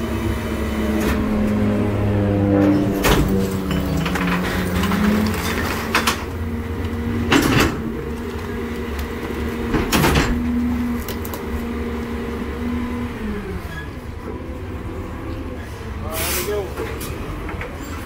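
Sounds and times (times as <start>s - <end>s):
garbage truck engine rumbling: 0.0s - 18.0s.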